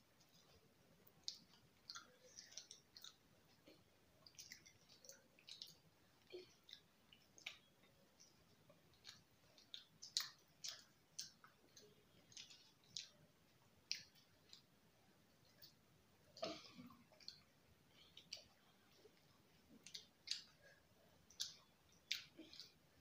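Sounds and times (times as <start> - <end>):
mouths chewing soft food: 0.0 - 23.0.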